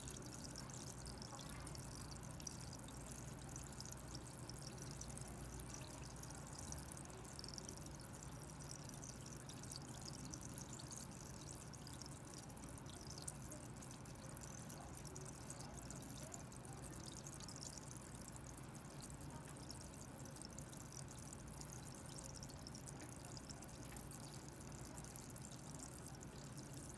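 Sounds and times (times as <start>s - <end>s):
sparkling water fizzing in a glass: 0.0s - 26.9s.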